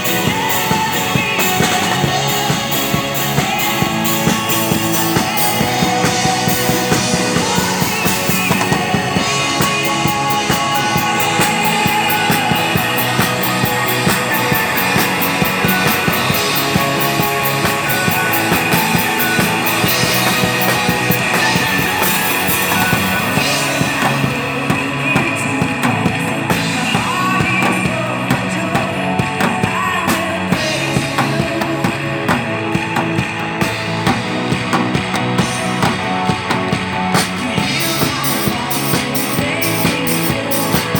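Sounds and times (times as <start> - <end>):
person singing: 0.0 - 34.5, 35.4 - 40.9
drum kit played fast: 0.0 - 40.9
rock music: 0.0 - 40.9.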